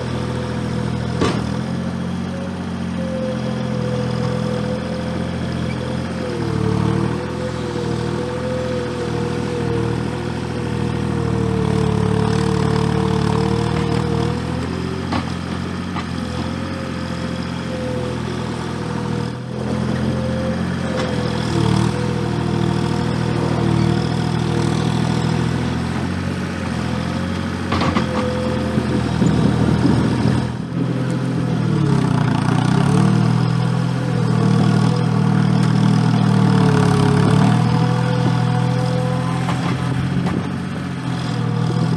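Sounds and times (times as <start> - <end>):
skid steer engine under load: 0.0 - 41.9.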